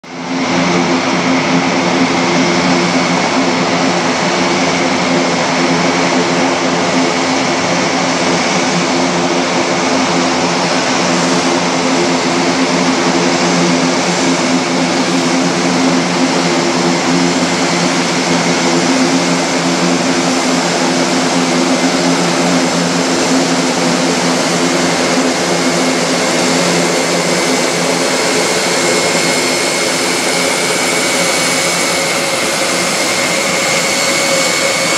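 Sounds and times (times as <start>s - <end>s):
propeller drone: 0.0s - 34.9s.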